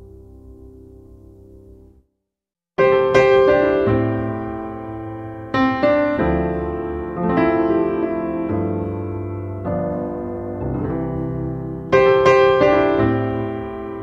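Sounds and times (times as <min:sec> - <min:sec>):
slow piano chords: 0:00.0 - 0:02.1, 0:02.8 - 0:14.0.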